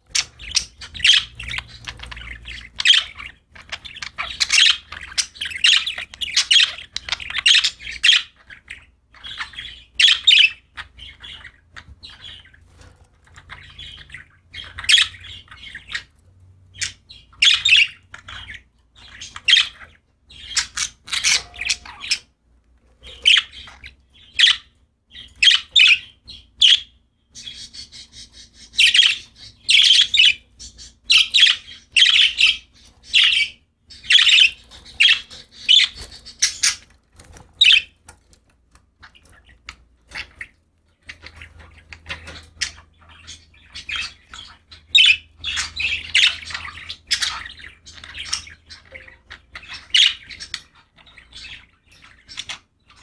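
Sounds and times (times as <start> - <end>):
budgerigars chirping and squawking: 0.0 - 53.0.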